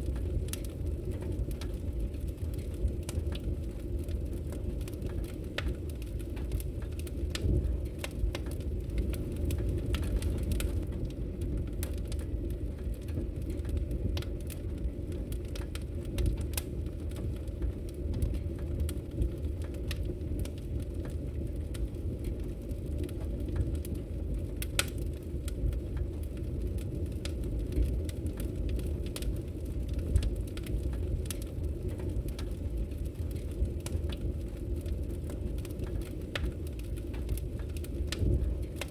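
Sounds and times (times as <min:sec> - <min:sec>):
logs crackling and popping in fire: 0:00.0 - 0:38.9
steady low rumble: 0:00.0 - 0:38.9.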